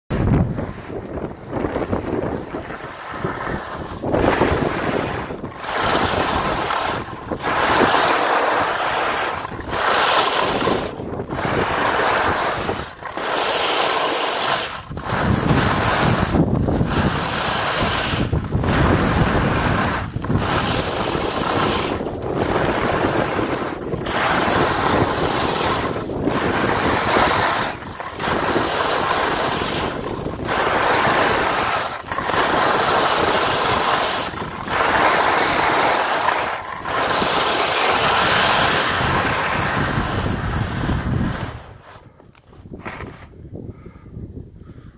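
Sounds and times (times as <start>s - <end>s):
strong wind on microphone: 0.1s - 44.9s.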